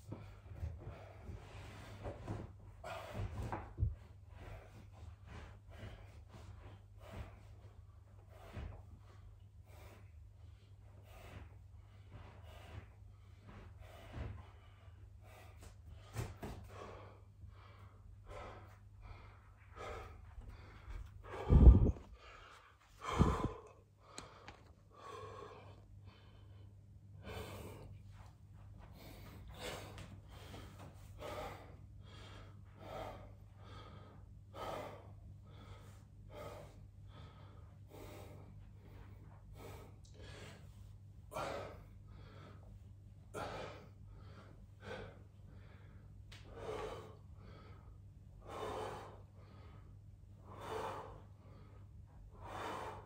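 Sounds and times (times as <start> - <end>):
man breathing hard: 0.0 - 53.0.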